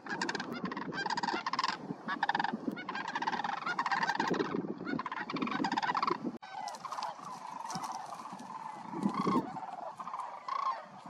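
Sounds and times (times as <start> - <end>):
cranes rattling calls: 0.0 - 11.0.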